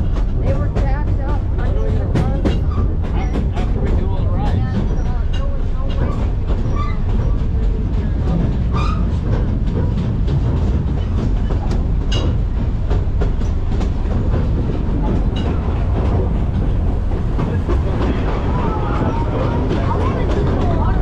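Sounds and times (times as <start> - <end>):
train car rumbling: 0.0 - 21.0
wheels clicking over rail joints: 0.0 - 21.0.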